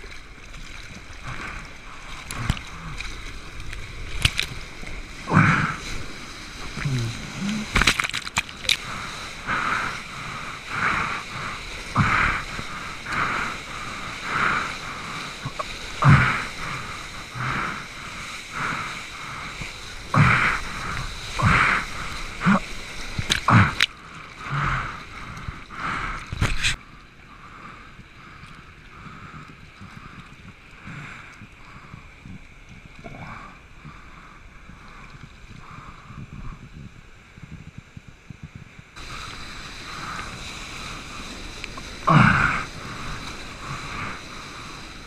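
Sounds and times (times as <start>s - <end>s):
whitewater splashing and rushing: 0.0s - 36.5s, 39.0s - 45.0s
choppy water washing: 0.0s - 45.0s.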